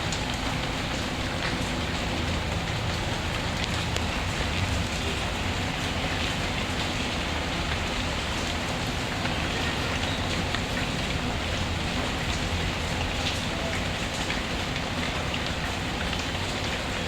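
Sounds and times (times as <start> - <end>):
heavy rain hiss: 0.0 - 17.0.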